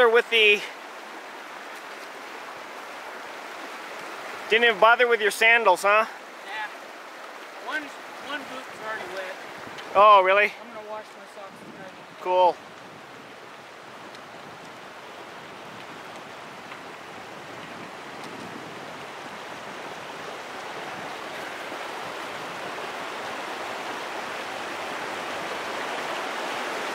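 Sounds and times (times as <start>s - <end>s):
stream running over rocks: 0.0s - 26.9s.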